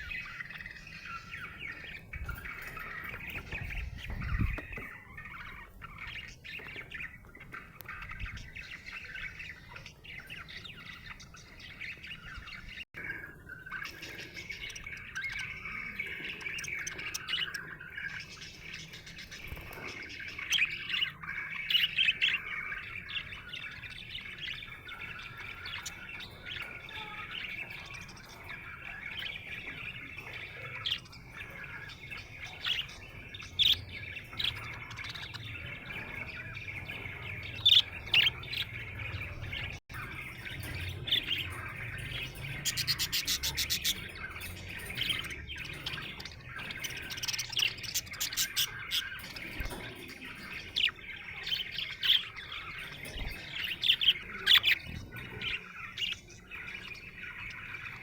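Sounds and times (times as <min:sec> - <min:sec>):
budgerigar warbling and chattering: 0:00.0 - 0:58.0
sharp bird chirps: 0:00.0 - 0:58.0.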